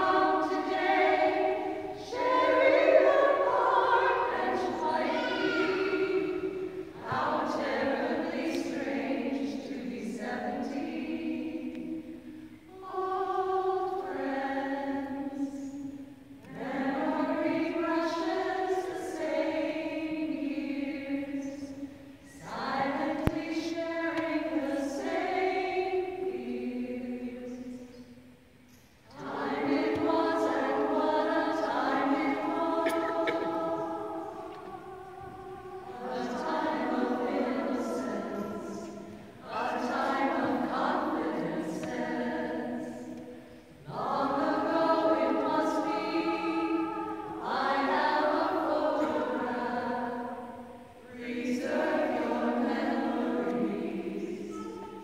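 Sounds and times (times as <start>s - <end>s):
women singing a cappella: 0.0s - 55.0s.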